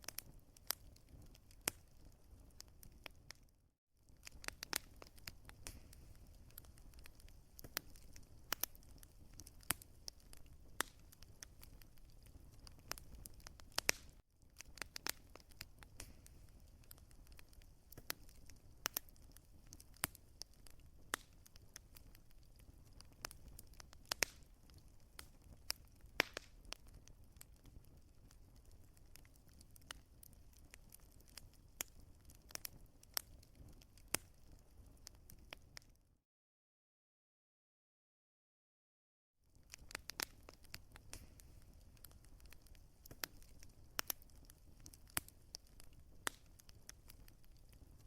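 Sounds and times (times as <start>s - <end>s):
wood fire crackling: 0.0s - 36.0s, 39.5s - 48.0s.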